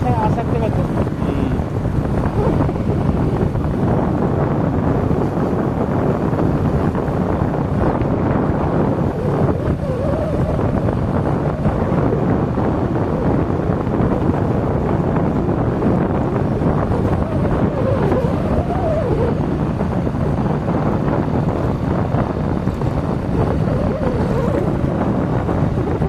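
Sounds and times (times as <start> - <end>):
vehicle engine and road noise: 0.0 - 26.0
wind rushing over microphone: 0.0 - 26.0.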